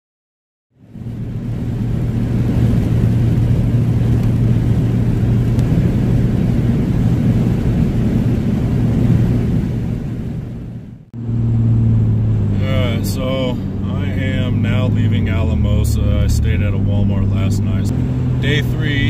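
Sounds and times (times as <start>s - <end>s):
van engine and road noise: 0.7s - 19.0s.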